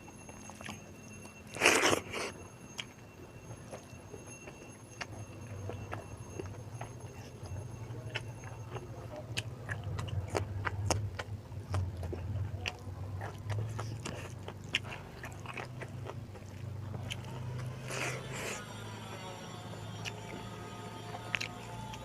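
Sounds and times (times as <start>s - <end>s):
steady low hum: 0.0s - 22.0s
person chewing food: 0.1s - 22.0s.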